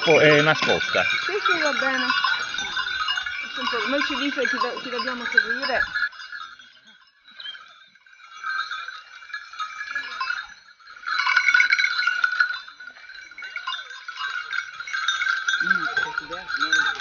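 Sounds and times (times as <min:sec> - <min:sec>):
small bells jangling: 0:00.0 - 0:17.0.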